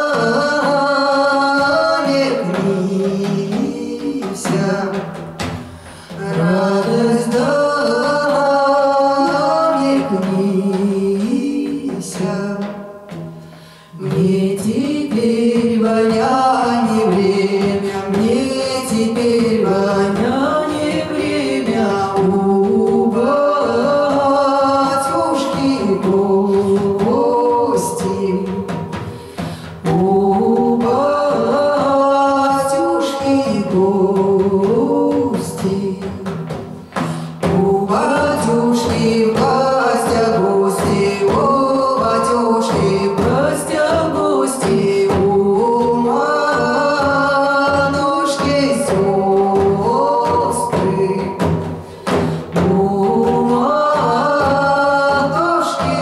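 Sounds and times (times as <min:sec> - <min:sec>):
women singing: 0:00.0 - 0:56.0.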